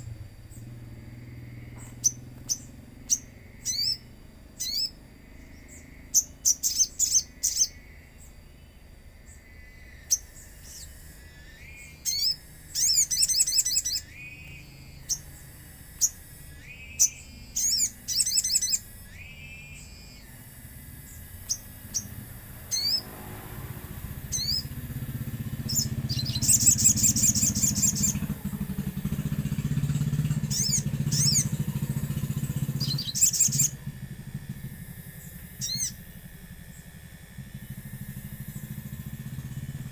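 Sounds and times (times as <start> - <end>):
bird chirps and trills: 0.0 - 39.9
low engine hum: 0.0 - 39.9.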